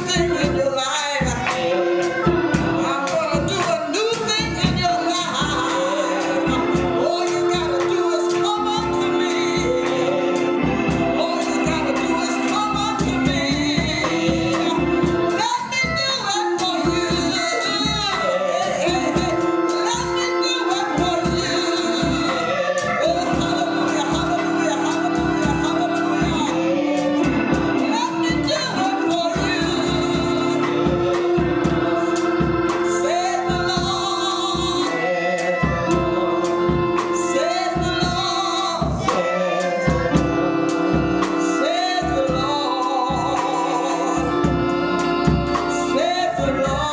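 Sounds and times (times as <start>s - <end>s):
gospel singing: 0.0s - 46.9s
instrumental backing with steady beat: 0.0s - 46.9s.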